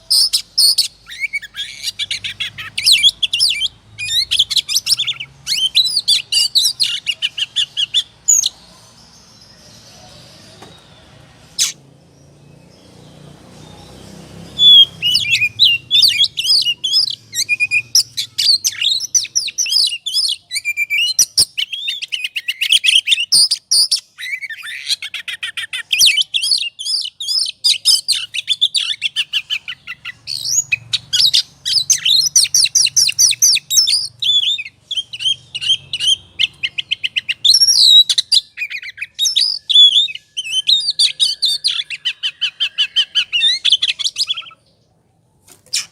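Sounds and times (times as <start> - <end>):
bird chirping and whistling: 0.0 - 8.5, 11.6 - 11.8, 13.6 - 44.6.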